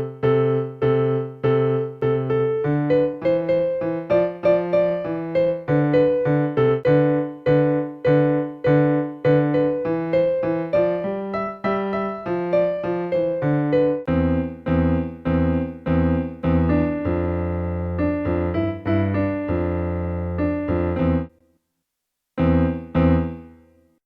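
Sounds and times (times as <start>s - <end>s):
electronic keyboard melody: 0.0s - 21.4s, 22.4s - 23.8s.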